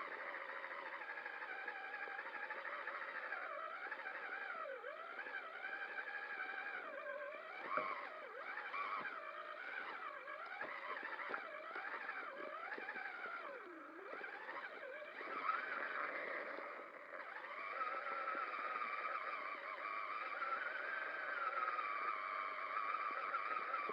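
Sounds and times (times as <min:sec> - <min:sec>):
electric motor whining: 0:00.0 - 0:23.9.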